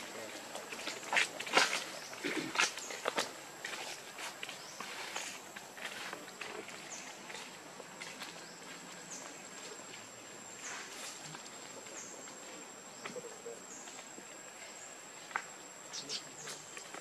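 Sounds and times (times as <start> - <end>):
forest background hiss: 0.0 - 17.0.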